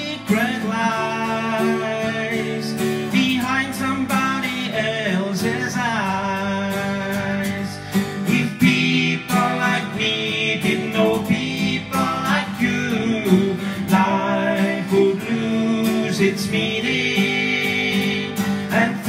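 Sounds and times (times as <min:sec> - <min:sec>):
acoustic guitar strumming: 0:00.0 - 0:19.0
man singing country song: 0:00.0 - 0:19.0.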